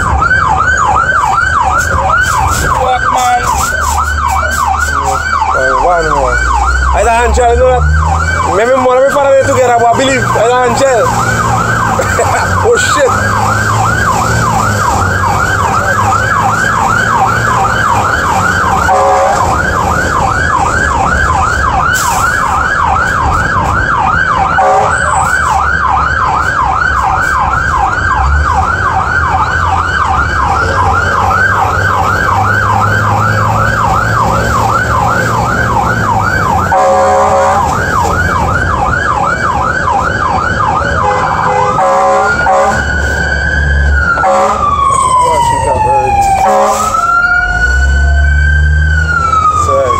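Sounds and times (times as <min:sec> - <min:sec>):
fire truck siren: 0:00.0 - 0:49.9
truck engine running: 0:00.0 - 0:49.9.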